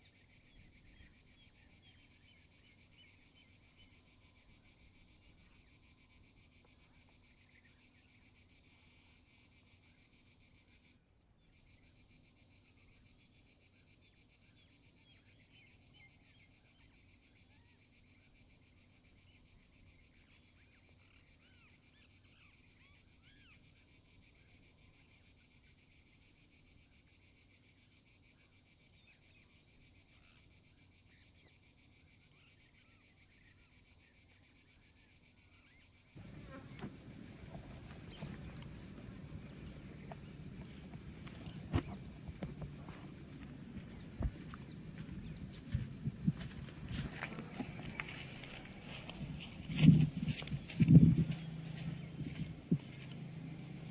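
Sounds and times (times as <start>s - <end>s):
insects buzzing and shrilling: 0.0s - 53.9s.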